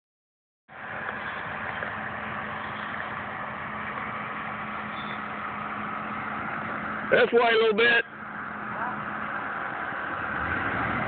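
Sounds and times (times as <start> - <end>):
truck engine running at low revs: 0.7 - 11.0.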